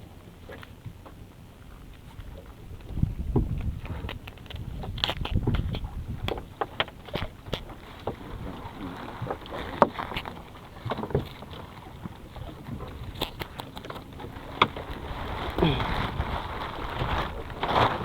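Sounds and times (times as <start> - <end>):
water noise: 0.0 - 18.0
wind on microphone: 1.7 - 13.6, 14.3 - 18.0.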